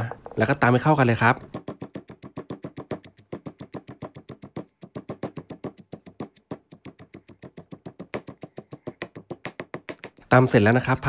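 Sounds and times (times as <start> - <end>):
pestle pounding in stone mortar: 1.3 - 10.2.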